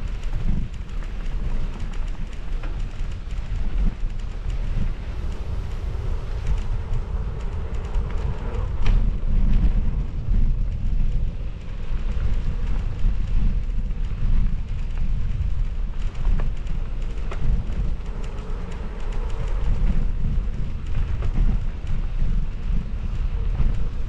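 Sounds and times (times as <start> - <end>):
bike clicks and rattles: 0.0 - 24.0
bike rolling on dirt trail: 0.0 - 24.0
wind buffeting microphone: 0.0 - 24.0.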